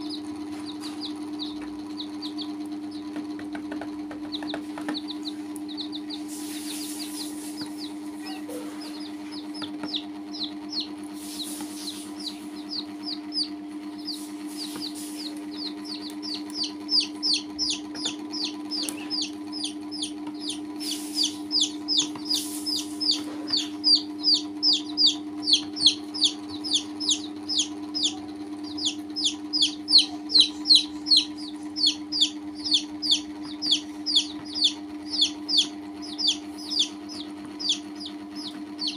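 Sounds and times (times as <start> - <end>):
baby chicks peeping: 0.0 - 38.9
steady low hum: 0.0 - 38.9.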